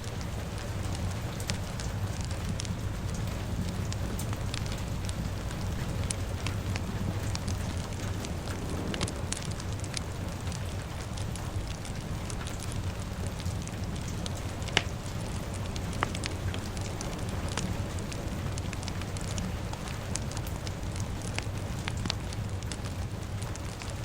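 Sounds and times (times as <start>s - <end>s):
fire crackling and popping: 0.0s - 24.0s
rain: 0.0s - 24.0s.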